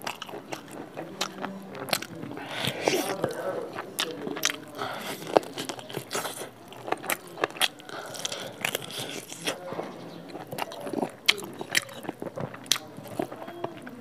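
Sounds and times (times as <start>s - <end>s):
wet chewing and biting: 0.0s - 14.0s.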